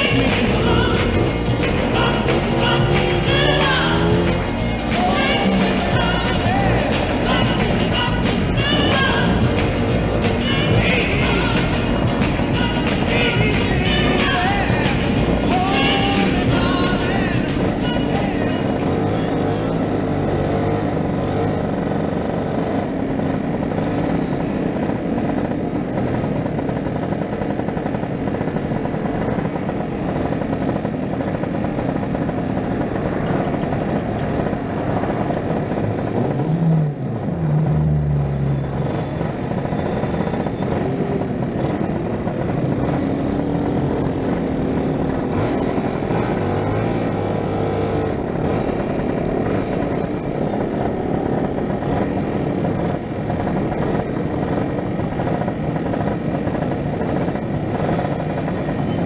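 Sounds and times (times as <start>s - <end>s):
scooter engine running: 0.0s - 59.0s
wind and road noise: 0.0s - 59.0s.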